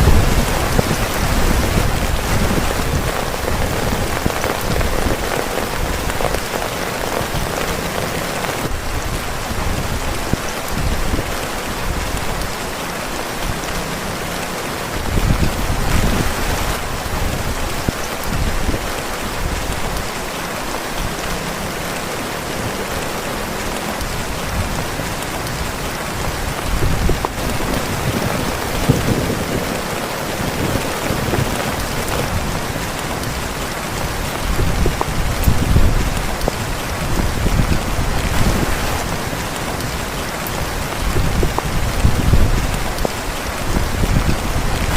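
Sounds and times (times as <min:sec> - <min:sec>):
heavy rain on tent fabric: 0:00.0 - 0:44.9.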